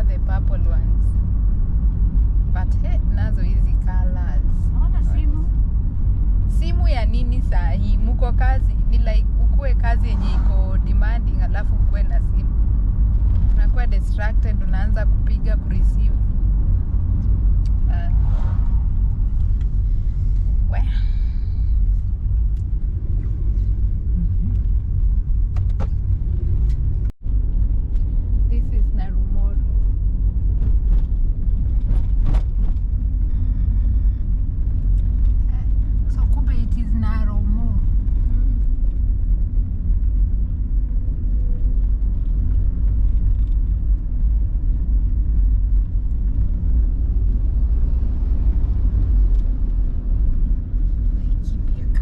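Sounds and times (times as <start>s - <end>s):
car cabin road and engine rumble: 0.0s - 52.0s.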